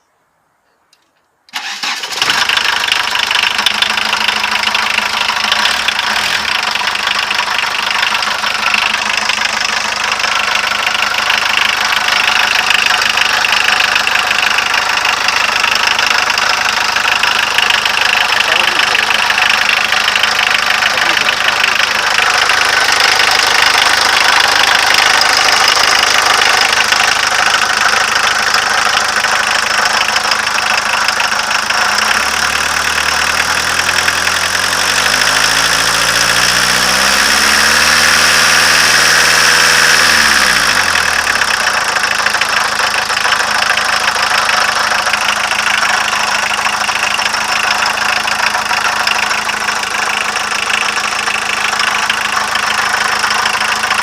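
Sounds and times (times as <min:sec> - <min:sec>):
diesel engine revving: 0:01.6 - 0:54.0.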